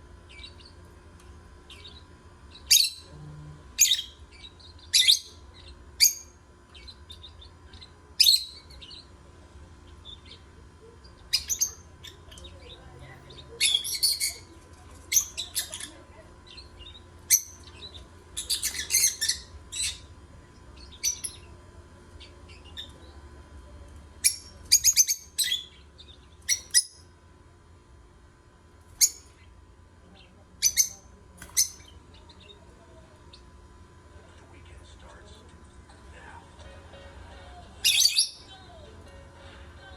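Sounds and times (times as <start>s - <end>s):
faint steady hum: 0.0s - 39.9s
lovebirds chirping: 0.2s - 23.4s, 24.2s - 27.1s, 28.9s - 39.9s.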